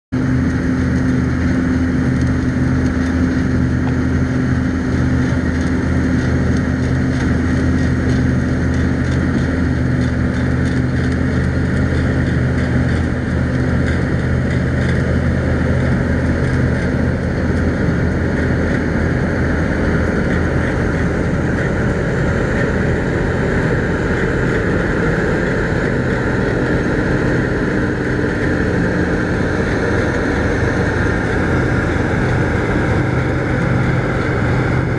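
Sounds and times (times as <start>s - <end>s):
diesel engine drone: 0.1s - 34.9s
whir of cutting machinery: 0.2s - 34.9s.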